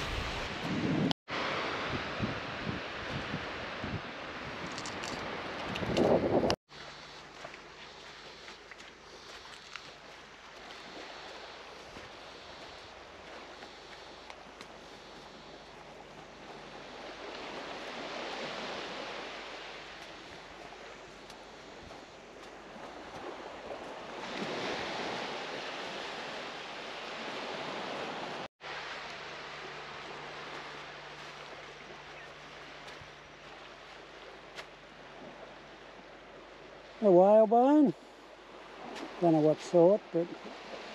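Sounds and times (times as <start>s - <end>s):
small waves washing onto sand: 0.0s - 40.9s.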